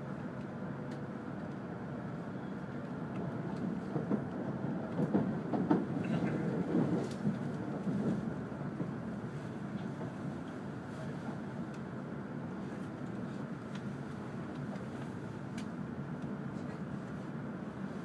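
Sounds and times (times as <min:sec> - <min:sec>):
train cabin rumble: 0:00.0 - 0:18.0.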